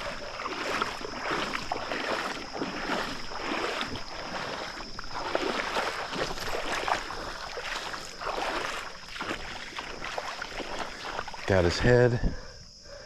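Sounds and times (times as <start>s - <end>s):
water splashing while wading: 0.0s - 12.2s.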